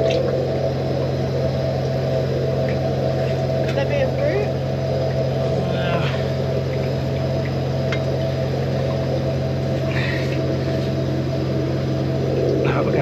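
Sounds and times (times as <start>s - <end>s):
drain jetter engine and pump droning: 0.0s - 13.0s.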